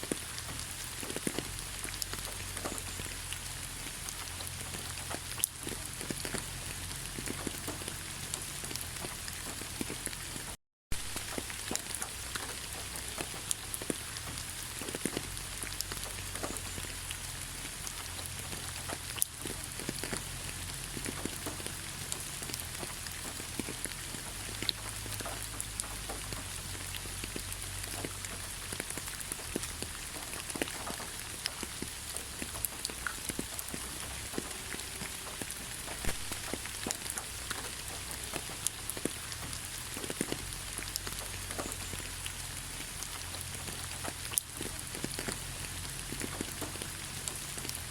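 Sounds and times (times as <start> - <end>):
raindrop ticks: 0.0 - 47.9
steady rain falling: 0.0 - 47.9.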